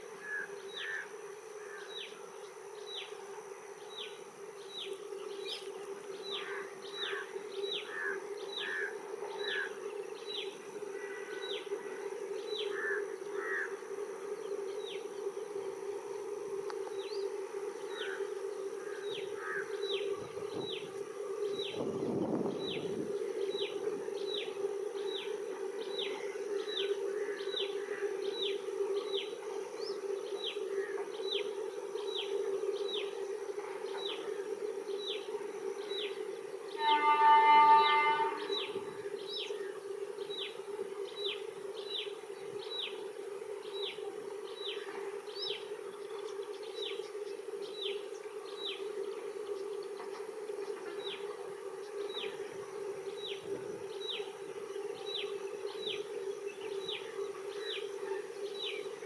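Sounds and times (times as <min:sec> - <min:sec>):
insects buzzing drone: 0:00.0 - 0:59.0.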